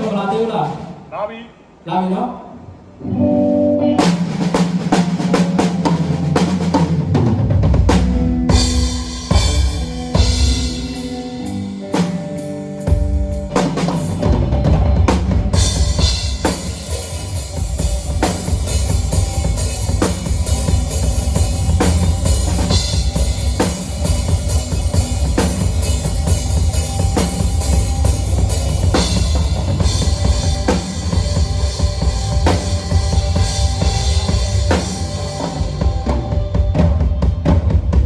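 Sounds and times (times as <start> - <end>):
band playing: 2.6 - 38.0
live drum kit beat: 4.0 - 38.0.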